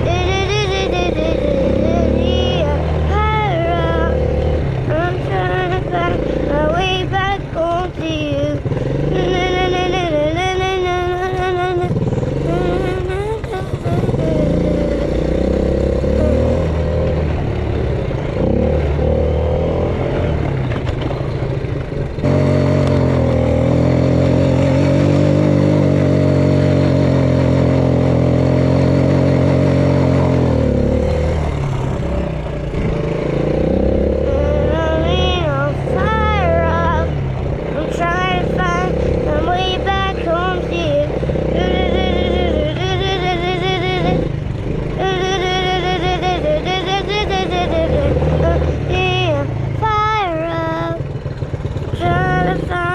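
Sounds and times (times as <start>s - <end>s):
off-road vehicle engine: 0.0s - 52.9s.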